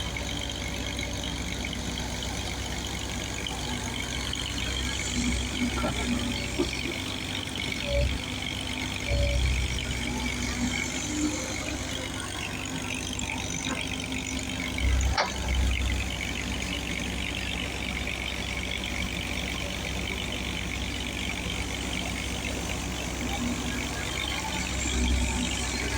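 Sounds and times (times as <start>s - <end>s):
vehicle engine rumbling: 0.0s - 25.9s.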